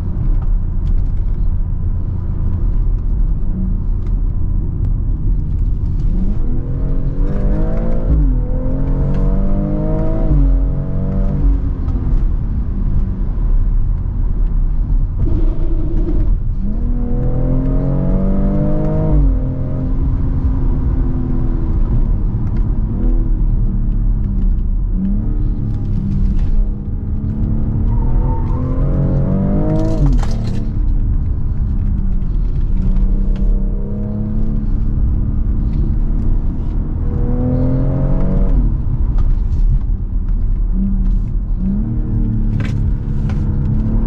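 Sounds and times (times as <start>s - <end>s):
car engine accelerating hard: 2.0s - 44.0s.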